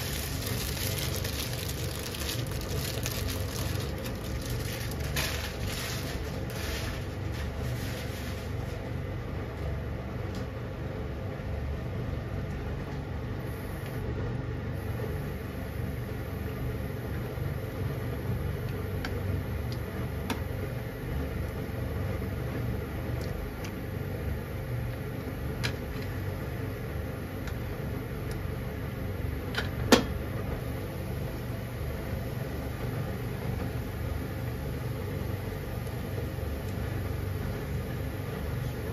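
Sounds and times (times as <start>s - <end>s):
gas burner rumble: 0.0s - 38.9s.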